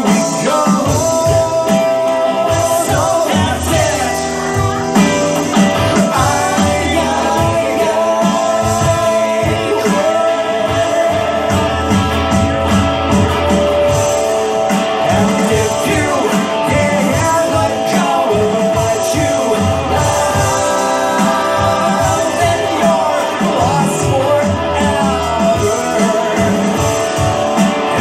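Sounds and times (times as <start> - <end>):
drum kit: 0.0 - 28.0
electric guitar: 0.0 - 28.0
man singing: 0.0 - 28.0.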